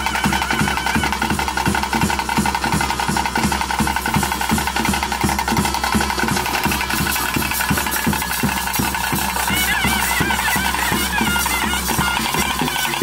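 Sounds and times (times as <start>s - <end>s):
drums beating fast rhythm: 0.0s - 13.0s
held wind instrument tone: 0.0s - 13.0s
shimmering metallic jingle: 2.3s - 13.0s.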